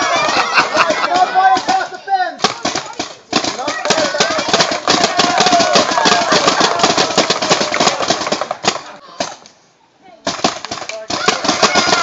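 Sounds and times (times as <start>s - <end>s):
people shouting: 0.0s - 2.9s, 3.5s - 9.3s, 11.0s - 12.0s
rapid paintball gunfire: 0.1s - 9.4s, 10.2s - 12.0s.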